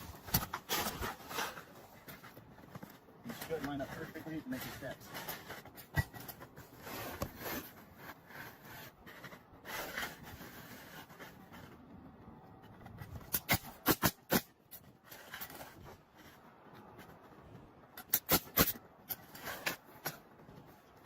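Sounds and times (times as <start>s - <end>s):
shingles rustling: 0.0s - 21.0s.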